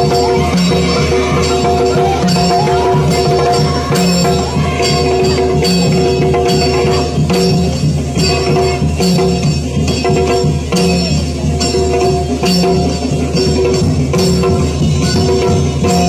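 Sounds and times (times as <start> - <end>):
percussion: 0.0 - 16.0
small hand cymbals struck: 0.0 - 16.0.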